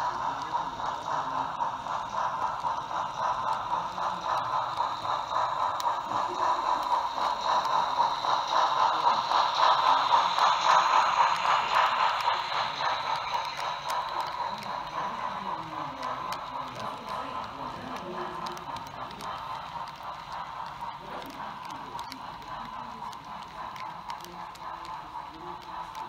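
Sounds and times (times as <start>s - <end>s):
model train wheels clattering: 0.0s - 26.0s.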